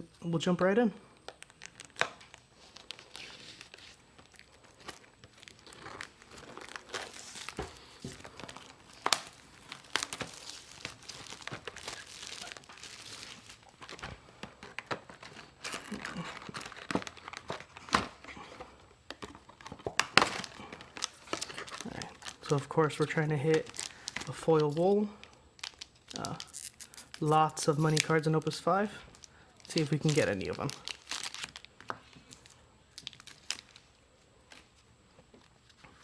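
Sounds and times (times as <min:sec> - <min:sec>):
plastic wrapping crinkling and tearing: 0:01.1 - 0:34.8.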